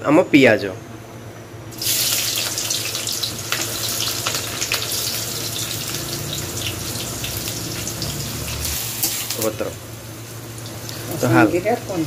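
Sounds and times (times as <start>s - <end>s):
onions sizzling in hot oil: 1.7s - 12.0s.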